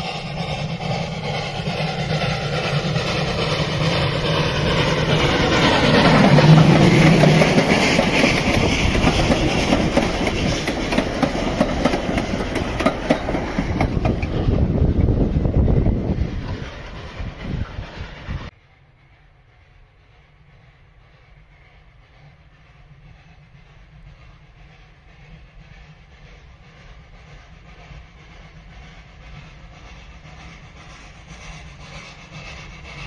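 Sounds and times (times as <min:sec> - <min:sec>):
steam train passing: 0:00.0 - 0:33.0.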